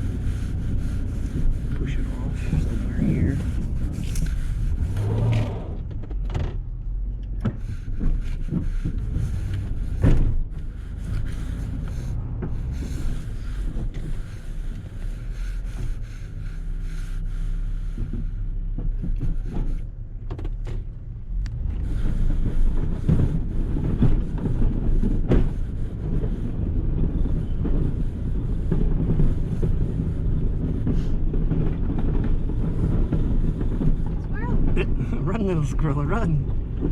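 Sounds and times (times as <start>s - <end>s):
plow pushing heavy snow: 0.0s - 36.9s
snow plow engine running: 0.0s - 36.9s.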